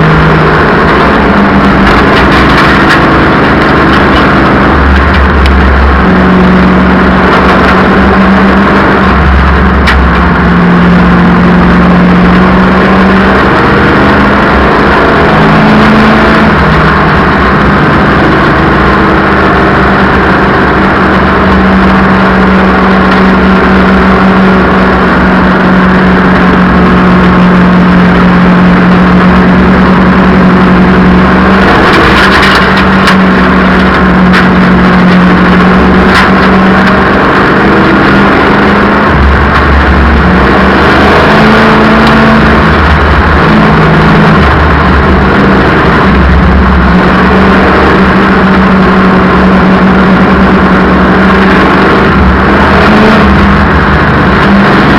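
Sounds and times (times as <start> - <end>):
race car engine running hard: 0.0 - 54.9.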